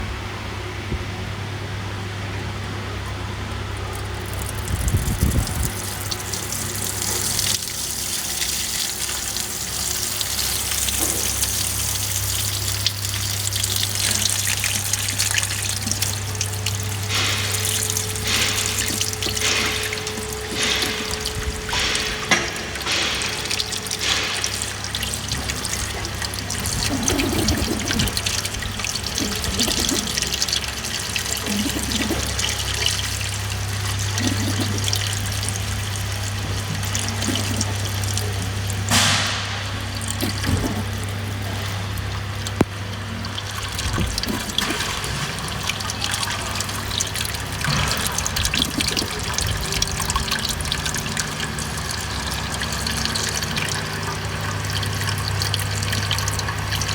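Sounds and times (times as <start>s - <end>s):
engine running hum: 0.0s - 56.9s
water trickling and pouring: 3.6s - 56.9s
rush of liquid: 3.8s - 56.9s.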